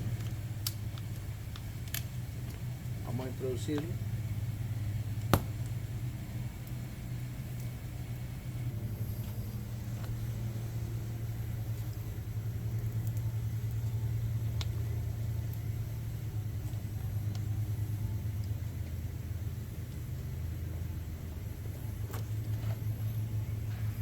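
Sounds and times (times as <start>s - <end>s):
pulsing low motor rumble: 0.0s - 24.0s.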